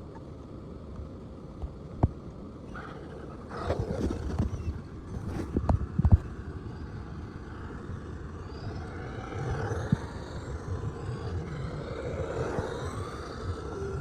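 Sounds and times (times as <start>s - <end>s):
wheels rumbling on ground: 0.0s - 14.0s
rc car electric motor whining: 2.7s - 14.0s.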